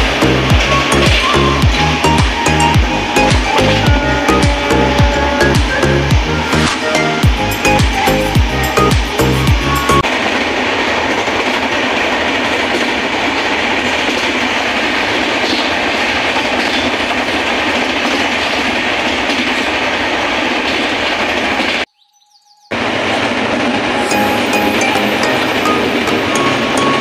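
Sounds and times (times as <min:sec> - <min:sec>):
train running noise from inside: 0:00.0 - 0:21.9, 0:22.7 - 0:27.0.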